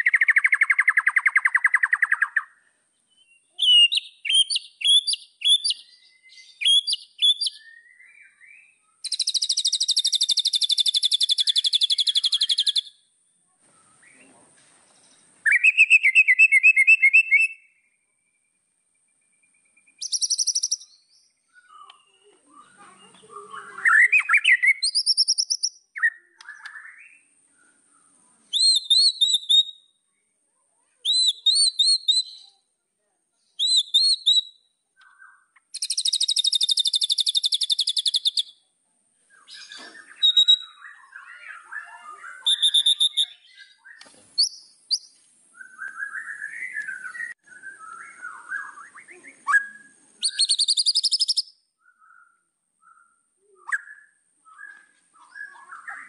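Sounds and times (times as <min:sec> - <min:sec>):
songbird singing and trilling: 0:00.0 - 0:56.0.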